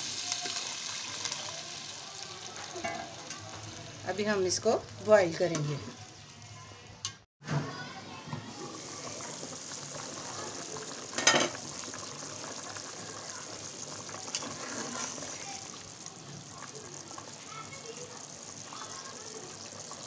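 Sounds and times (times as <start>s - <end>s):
stew boiling in a pot: 0.0s - 6.8s, 7.4s - 20.0s.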